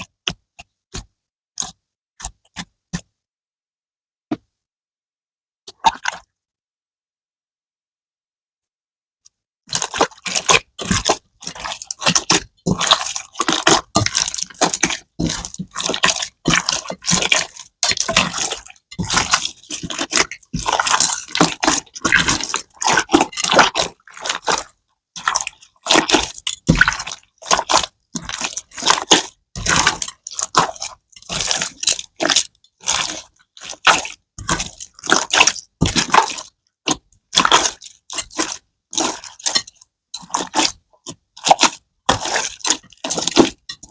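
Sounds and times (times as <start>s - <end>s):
slime squelching by hand: 0.0s - 3.1s, 5.7s - 6.3s, 9.6s - 43.9s.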